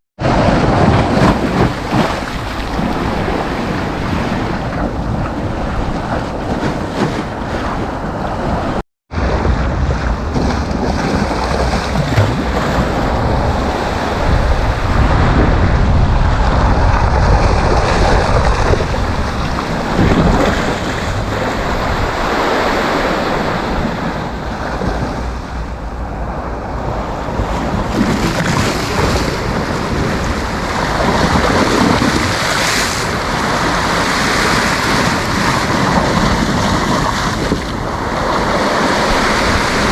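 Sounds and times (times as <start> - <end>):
sea waves breaking: 0.2 - 39.9
wind buffeting microphone: 0.2 - 39.9.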